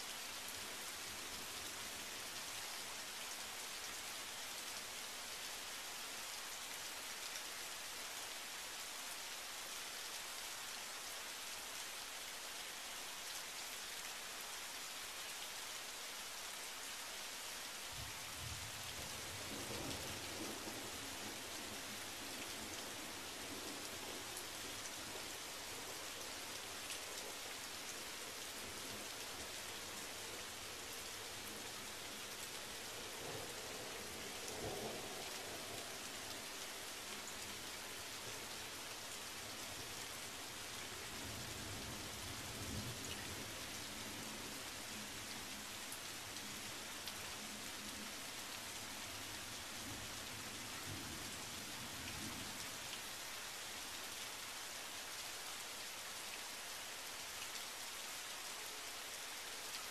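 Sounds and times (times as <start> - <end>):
rain falling on pavement: 0.0 - 59.9.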